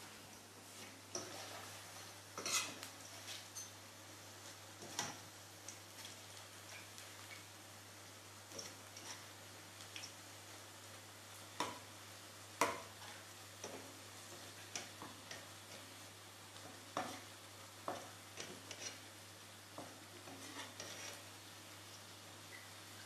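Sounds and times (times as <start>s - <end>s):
frying in hot oil hiss: 0.0s - 23.0s.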